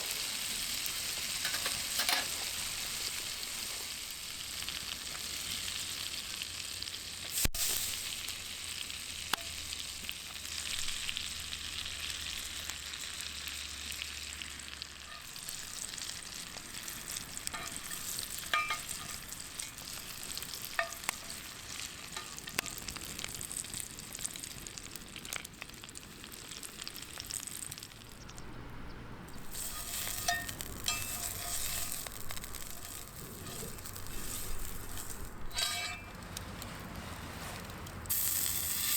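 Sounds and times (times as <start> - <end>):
steak sizzling on a griddle: 0.0 - 28.2, 29.4 - 36.2, 38.1 - 38.9.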